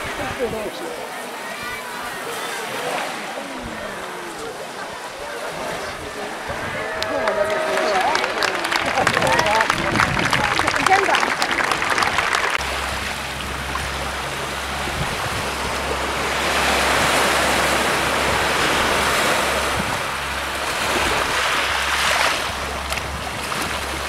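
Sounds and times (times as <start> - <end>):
small waves washing on shore: 0.0 - 24.0
wind rumble on microphone: 3.4 - 24.0.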